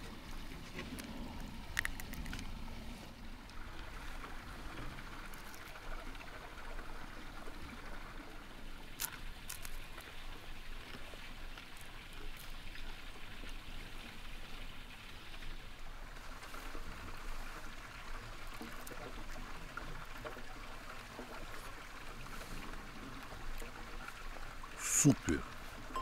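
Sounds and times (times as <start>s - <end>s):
outdoor hiss like running water: 0.0s - 26.0s.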